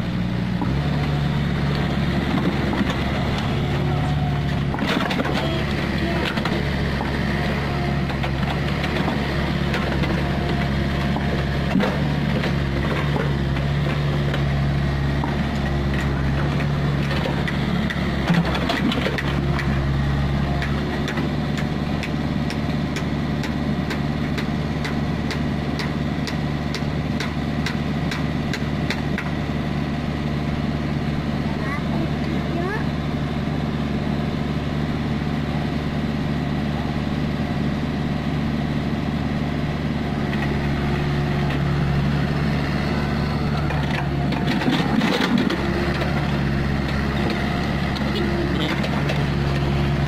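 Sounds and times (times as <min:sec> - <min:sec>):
excavator diesel engine: 0:00.0 - 0:50.0.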